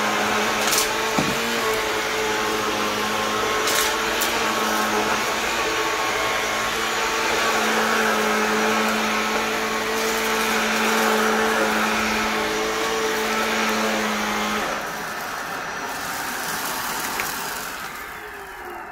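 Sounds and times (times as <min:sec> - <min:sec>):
vacuum cleaner running: 0:00.0 - 0:18.9.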